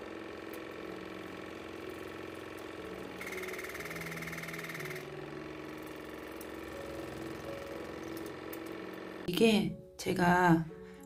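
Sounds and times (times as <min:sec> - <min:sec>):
water flosser pump buzzing: 0:00.0 - 0:09.3.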